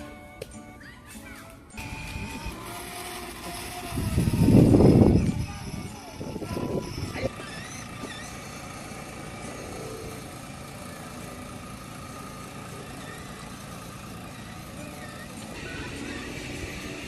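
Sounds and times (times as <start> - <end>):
toy quad bike engine drone: 1.7 - 17.0.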